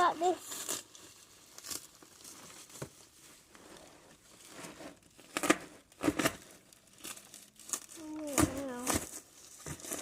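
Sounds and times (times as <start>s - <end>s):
plastic wrapping crinkling and tearing: 0.0s - 10.0s.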